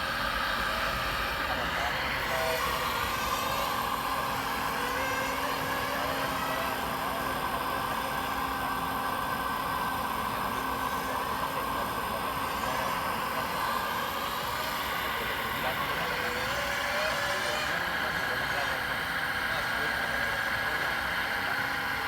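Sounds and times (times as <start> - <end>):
model truck engine whine: 0.0 - 22.0.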